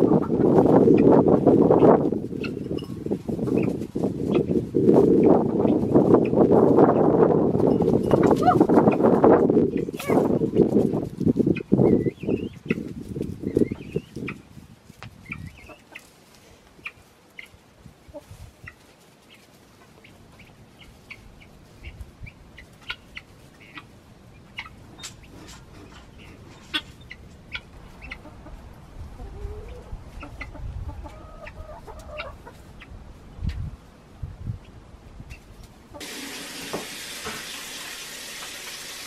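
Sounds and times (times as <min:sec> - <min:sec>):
hens clucking: 0:00.0 - 0:14.5, 0:15.2 - 0:33.7, 0:35.3 - 0:38.9.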